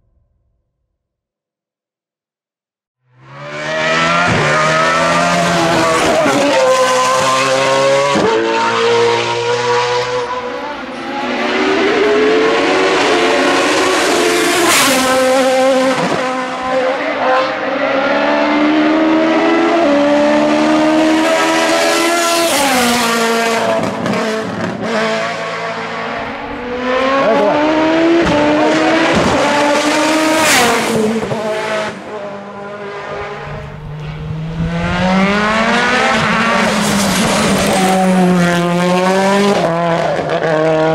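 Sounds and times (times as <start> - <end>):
race car engines revving: 3.1 - 40.9.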